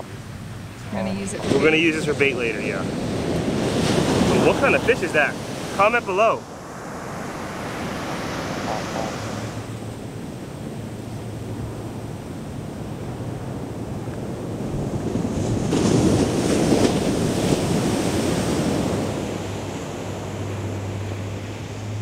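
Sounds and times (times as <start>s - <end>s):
surf breaking on a beach: 0.0s - 22.0s.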